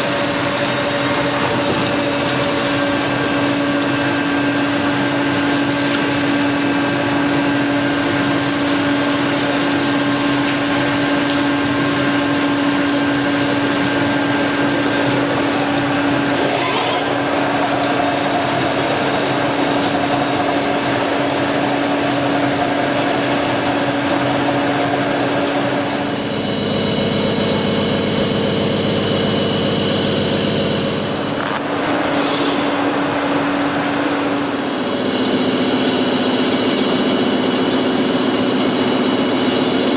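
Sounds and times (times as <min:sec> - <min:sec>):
milling machine hum and whine: 0:00.0 - 0:39.9.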